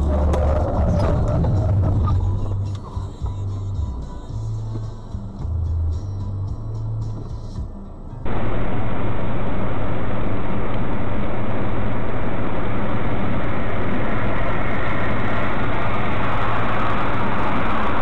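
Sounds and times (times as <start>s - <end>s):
low engine hum: 0.0s - 18.0s
road noise: 0.0s - 18.0s.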